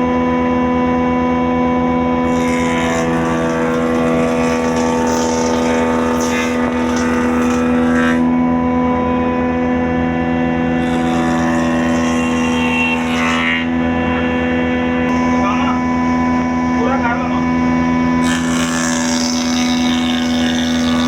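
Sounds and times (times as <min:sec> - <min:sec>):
woodworking machine humming: 0:00.0 - 0:21.0.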